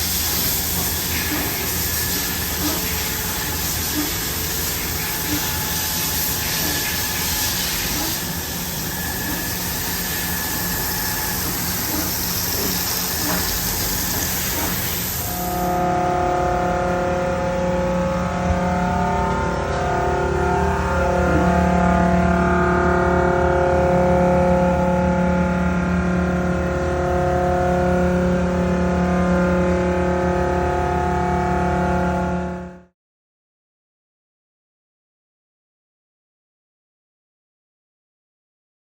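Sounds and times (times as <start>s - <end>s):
milling machine whine: 0.0s - 32.7s.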